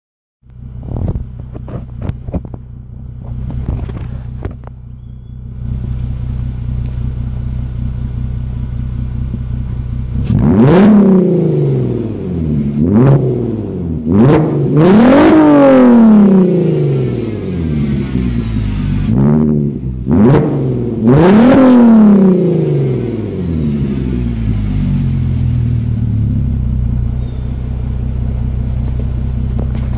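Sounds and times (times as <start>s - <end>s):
car engine idling and revving: 0.4s - 29.9s.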